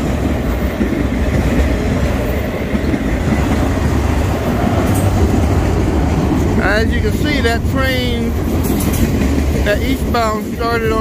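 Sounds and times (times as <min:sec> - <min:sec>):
freight train wheels rolling on rail: 0:00.0 - 0:11.0.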